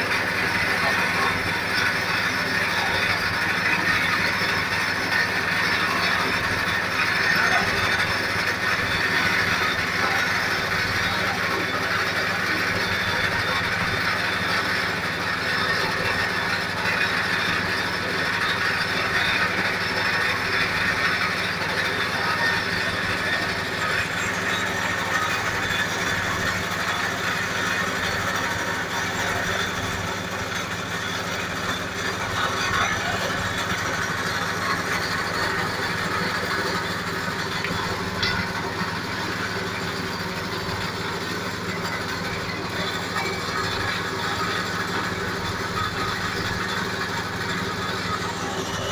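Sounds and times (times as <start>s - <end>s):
milling machine motor hum: 0.0s - 48.9s
rushing grinding noise: 0.0s - 48.9s.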